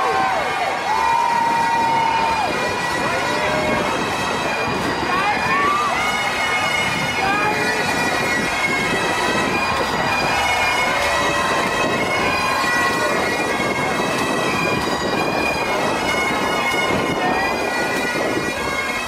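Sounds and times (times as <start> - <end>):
bagpipes playing: 0.0 - 19.0.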